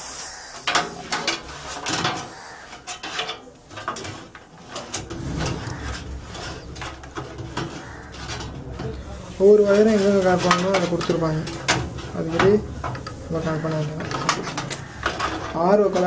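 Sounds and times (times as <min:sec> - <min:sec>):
cables and plastic connectors rattling: 0:00.6 - 0:05.1, 0:06.7 - 0:16.0.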